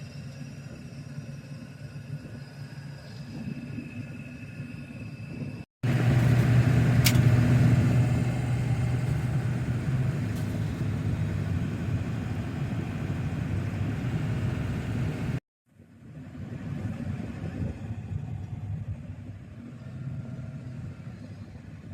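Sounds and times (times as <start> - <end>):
low hum: 0.0 - 21.9
vehicle engine and road rumble: 0.0 - 21.9.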